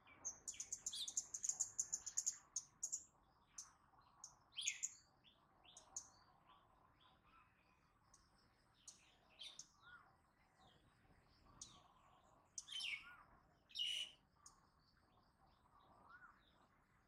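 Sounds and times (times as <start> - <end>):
birds chirping: 0.0 - 16.7.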